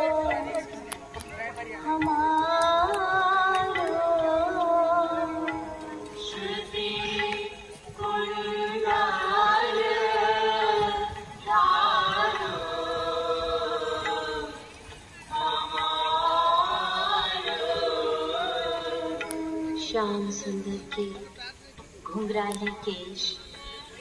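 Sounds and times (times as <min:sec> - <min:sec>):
voices singing devotional chant: 0:00.0 - 0:24.0.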